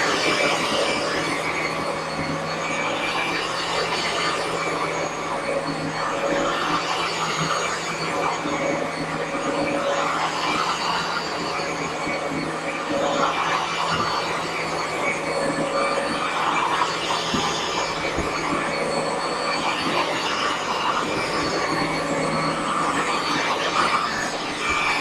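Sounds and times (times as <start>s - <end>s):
carpet washer motor humming: 0.0s - 25.0s.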